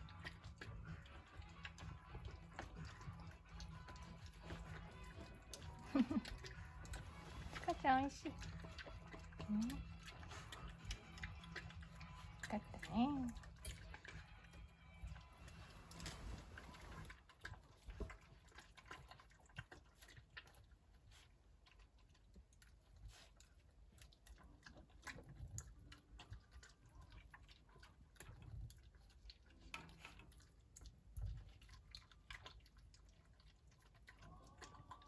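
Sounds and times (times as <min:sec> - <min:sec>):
puppies chewing dog food: 0:00.0 - 0:35.0.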